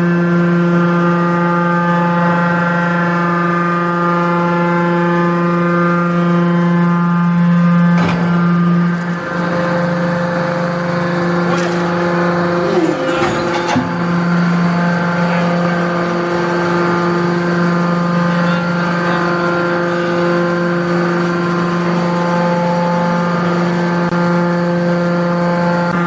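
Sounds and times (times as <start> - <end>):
hydraulic power unit humming: 0.0 - 26.0.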